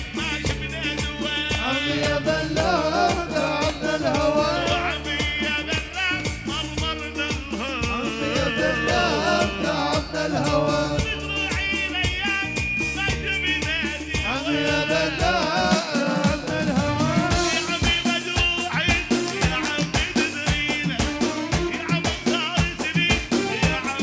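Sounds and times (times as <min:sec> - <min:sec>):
fast drum beat: 0:00.0 - 0:24.0.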